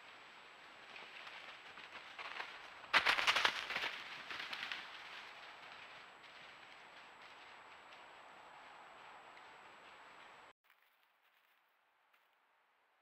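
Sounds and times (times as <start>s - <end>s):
rapid crackling: 0.0s - 10.4s
hooves crunching frozen leaves: 0.0s - 12.4s.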